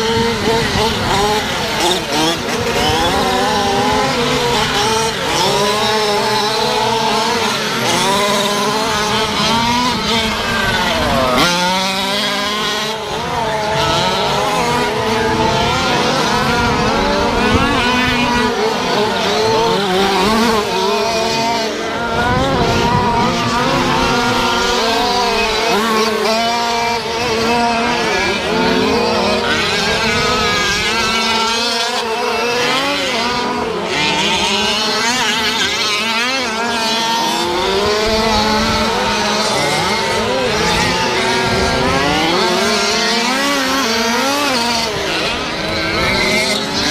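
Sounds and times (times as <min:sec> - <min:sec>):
small two-stroke engines revving: 0:00.0 - 0:46.9.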